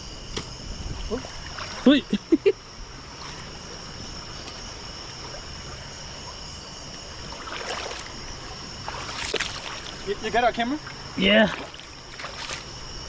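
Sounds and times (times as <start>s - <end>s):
steady water noise: 0.0s - 13.0s.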